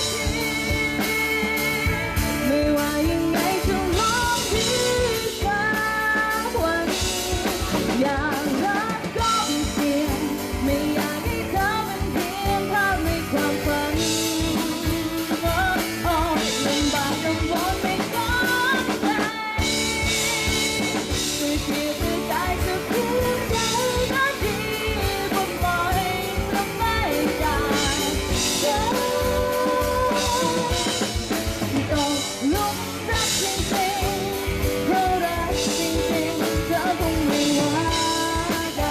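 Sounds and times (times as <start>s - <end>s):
person singing: 0.0s - 38.9s
pop-rock band playing: 0.0s - 38.9s.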